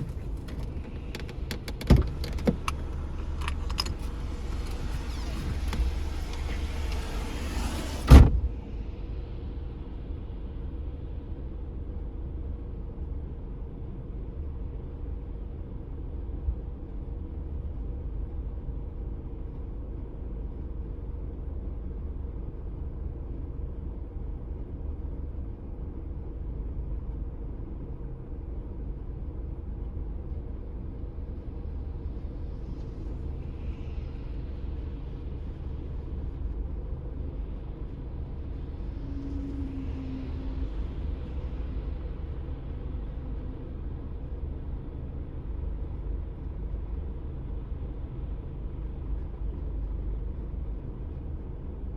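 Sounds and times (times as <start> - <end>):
faint constant hum: 0.0 - 51.9
road and engine rumble: 0.0 - 51.9.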